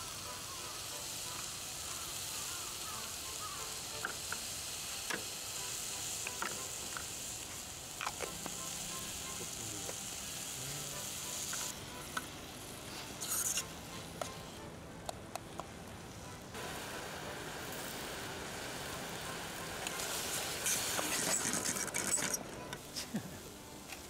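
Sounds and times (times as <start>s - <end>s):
food sizzling in a pot: 0.0s - 14.7s, 16.0s - 24.0s.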